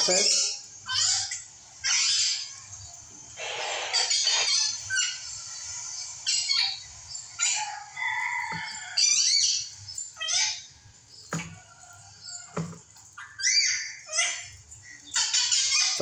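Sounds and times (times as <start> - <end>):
birds chirping and squawking: 0.0 - 16.0.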